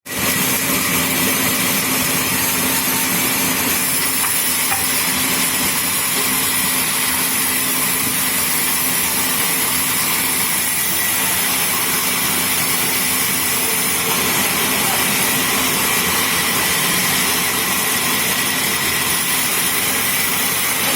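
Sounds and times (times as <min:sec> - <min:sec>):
sawmill machinery running: 0:00.1 - 0:20.9.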